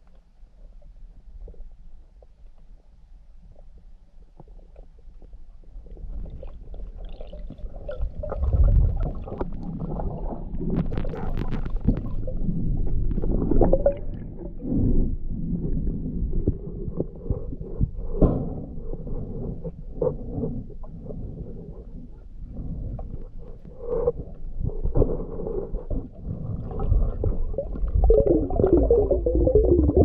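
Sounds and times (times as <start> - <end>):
underwater rumbling and gurgling: 0.0 - 30.0.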